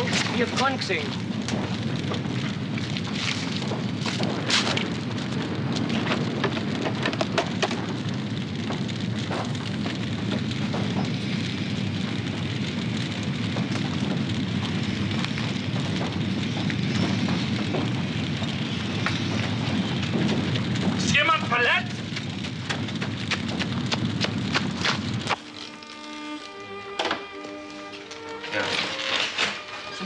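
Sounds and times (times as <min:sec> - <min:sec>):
sharp pops: 0:00.0 - 0:29.9
fire crackling: 0:00.0 - 0:30.0.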